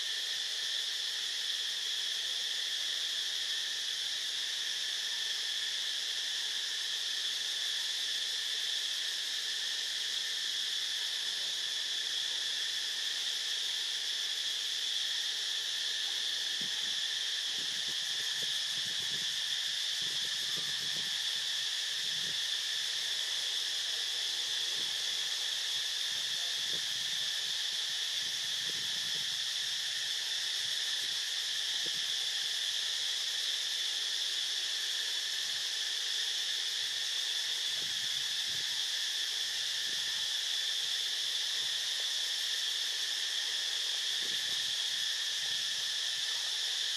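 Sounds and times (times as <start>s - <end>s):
insects buzzing trill: 0.0s - 46.9s.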